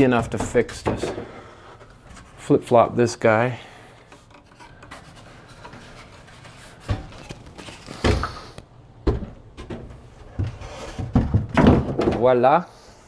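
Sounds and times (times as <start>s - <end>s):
wooden parts thudding: 0.0s - 2.5s, 3.7s - 12.5s.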